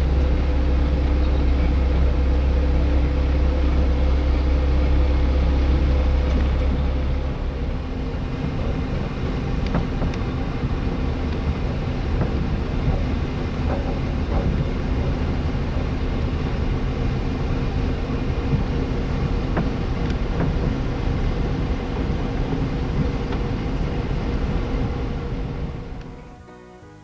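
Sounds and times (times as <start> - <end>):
car engine and tyre rumble: 0.0 - 26.2
faint hum: 0.0 - 27.0.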